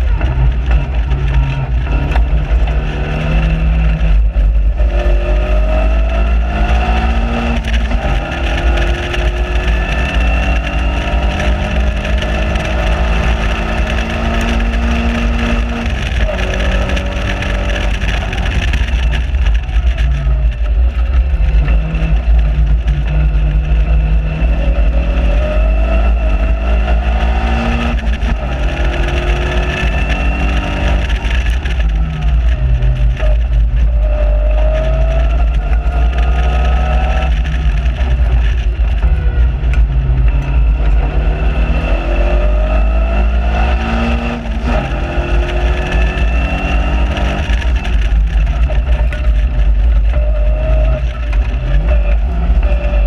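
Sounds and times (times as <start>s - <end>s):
car engine revving: 0.0s - 53.0s
wind rumble on microphone: 0.0s - 53.0s.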